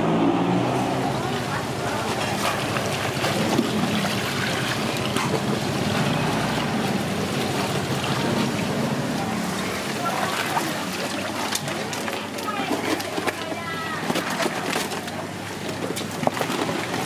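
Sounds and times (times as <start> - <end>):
water sloshing in a plastic tub: 0.1 - 17.0.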